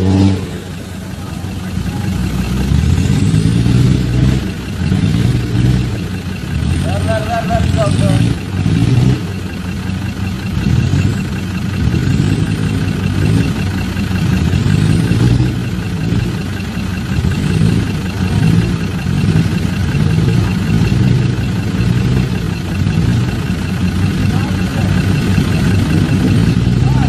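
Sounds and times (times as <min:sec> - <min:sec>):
off-road engine revving: 0:00.0 - 0:27.0.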